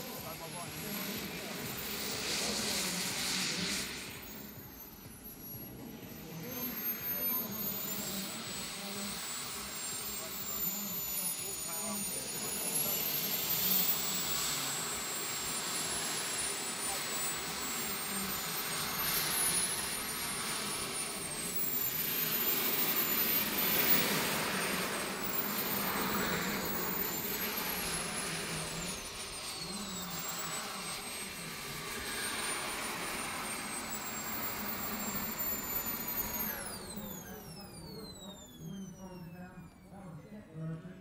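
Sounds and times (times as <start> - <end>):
turbine rushing noise: 0.0 - 40.0
model jet turbine whining: 0.0 - 41.0.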